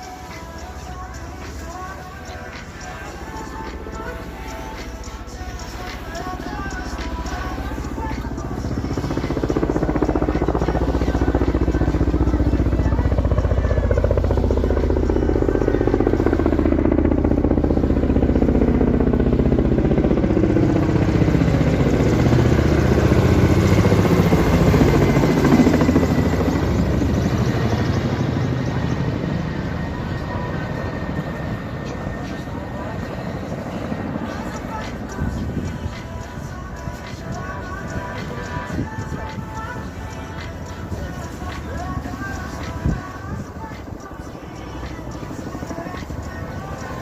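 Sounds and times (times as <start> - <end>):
helicopter rotor beat: 0.0 - 47.0.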